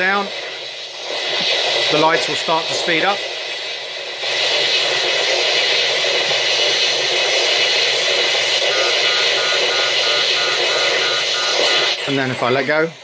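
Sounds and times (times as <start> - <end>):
hissing rush sound effect: 0.0 - 13.0.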